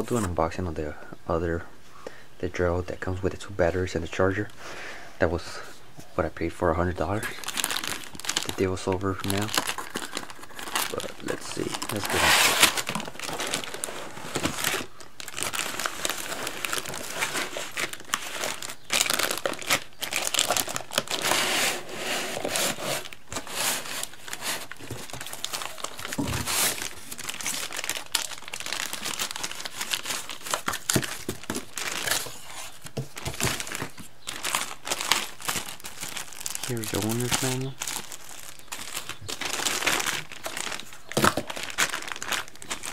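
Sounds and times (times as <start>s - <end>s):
cardboard and plastic crinkling: 6.8s - 42.9s.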